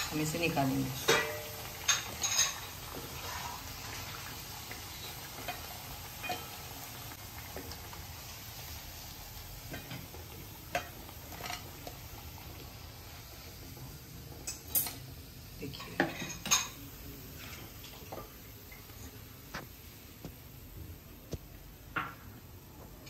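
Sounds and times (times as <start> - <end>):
deep-frying sizzle: 0.0 - 23.0.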